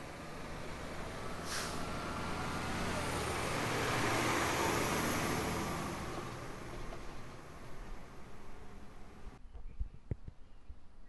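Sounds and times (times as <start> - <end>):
diesel engine driving past: 0.0 - 9.4.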